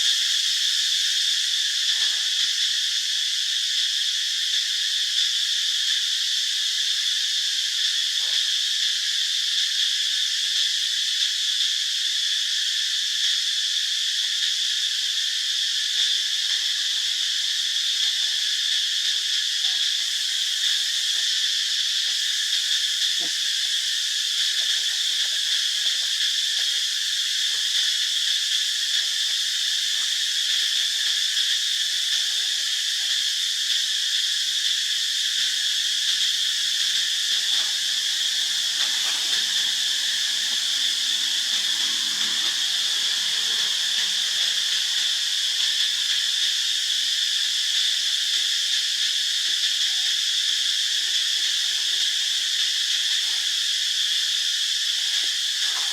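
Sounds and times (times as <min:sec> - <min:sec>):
insect chorus drone: 0:00.0 - 0:55.9.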